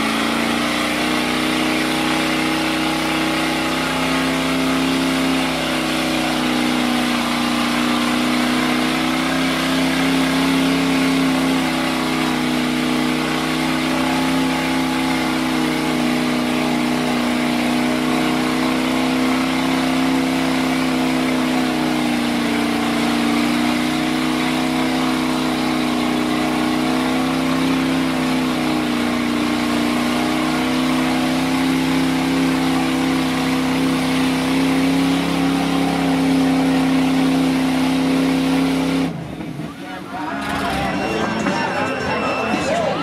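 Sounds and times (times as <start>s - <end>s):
truck engine at high revs: 0.0s - 43.0s.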